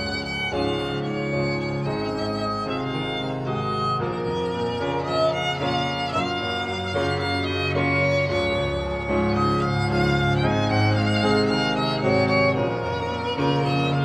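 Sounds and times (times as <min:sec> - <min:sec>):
low musical accompaniment: 0:00.0 - 0:14.0
violin melody: 0:00.0 - 0:14.0.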